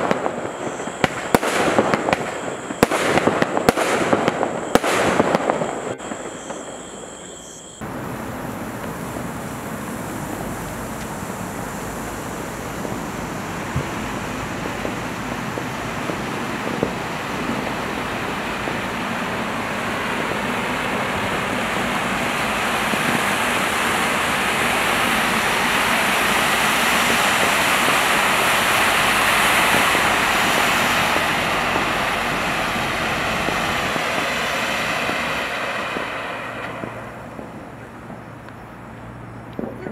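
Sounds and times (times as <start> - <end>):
firework fountains hissing: 0.0 - 39.9.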